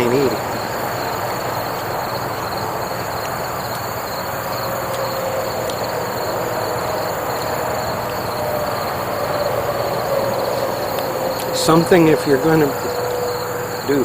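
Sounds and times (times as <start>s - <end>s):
faint whining tone: 0.0s - 14.0s
heavy vehicles passing: 0.0s - 14.0s
high wavering trill: 0.0s - 14.0s.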